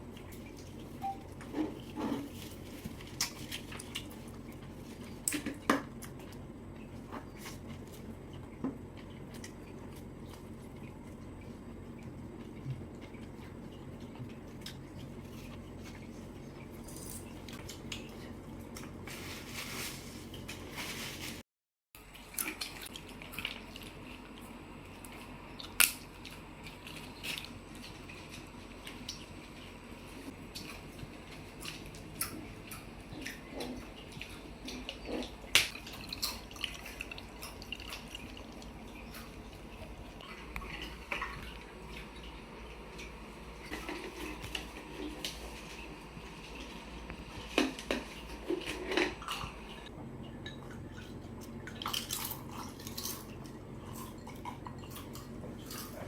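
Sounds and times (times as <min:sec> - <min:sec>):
chewing and smacking: 0:00.0 - 0:19.0, 0:22.0 - 0:56.0.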